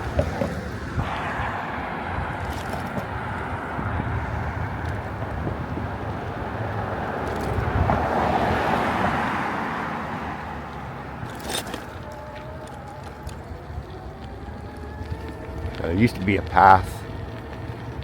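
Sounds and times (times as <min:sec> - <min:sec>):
road noise: 0:00.0 - 0:18.0
wind on microphone: 0:00.0 - 0:18.0.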